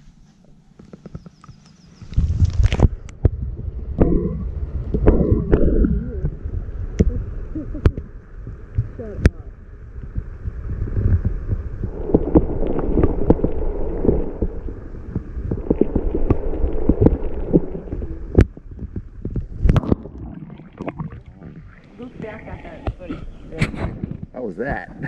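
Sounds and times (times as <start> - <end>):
underwater rumble and throb: 0.0 - 24.4.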